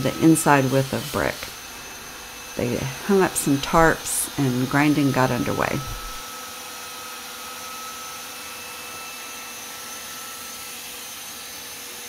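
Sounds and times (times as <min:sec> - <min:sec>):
angle grinder whining: 0:00.0 - 0:12.0.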